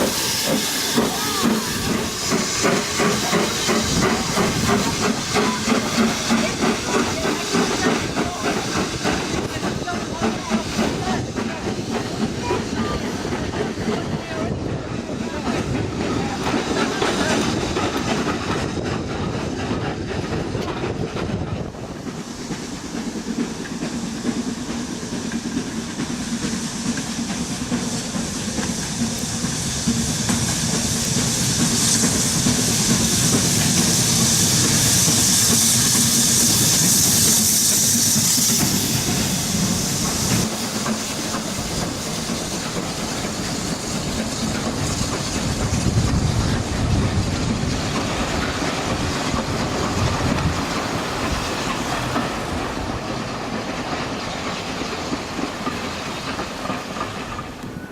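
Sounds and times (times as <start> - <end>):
steam hissing: 0.0 - 57.9
train wheels clattering on rails: 0.0 - 57.9.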